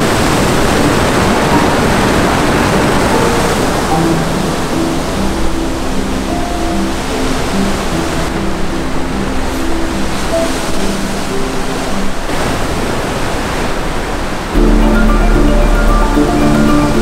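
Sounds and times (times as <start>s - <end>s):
waves breaking on rocks: 0.0s - 17.0s
soft background music: 0.4s - 12.4s, 14.6s - 17.0s.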